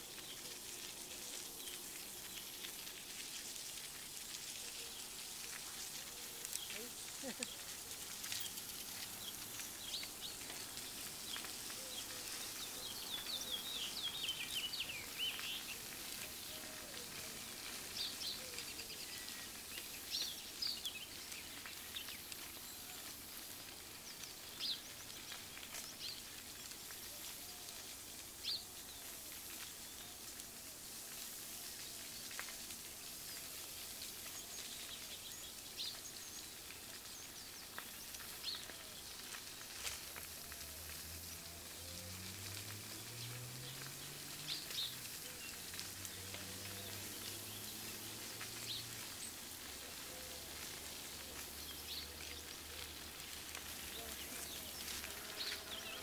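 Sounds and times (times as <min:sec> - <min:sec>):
songbirds chirping: 0:00.0 - 0:56.0
steady outdoor hiss: 0:00.0 - 0:56.0.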